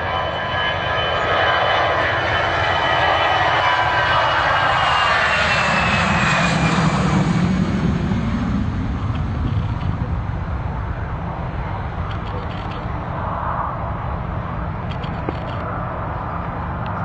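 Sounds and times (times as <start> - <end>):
airplane engine passing overhead: 0.0 - 17.0.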